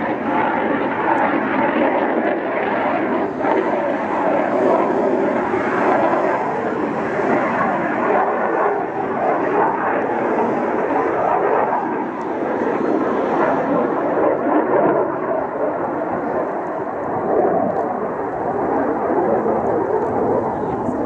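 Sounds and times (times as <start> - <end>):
jet engine flying overhead: 0.0 - 21.0.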